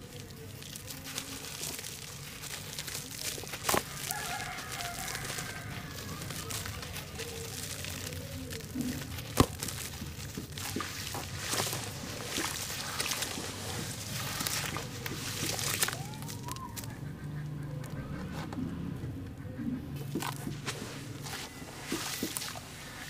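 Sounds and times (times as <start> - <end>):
crumbs falling into water: 0.0 - 16.9, 20.1 - 23.0
gritty crunching by hand: 0.0 - 17.2, 20.0 - 23.0.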